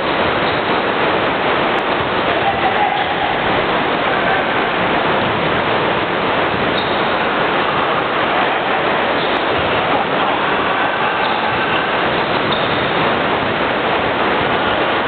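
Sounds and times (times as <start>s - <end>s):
echoing gym crowd noise: 0.0s - 15.0s.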